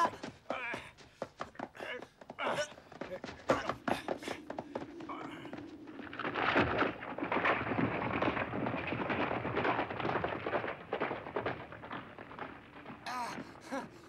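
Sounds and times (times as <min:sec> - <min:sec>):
horse galloping hoofbeats: 0:00.0 - 0:14.0.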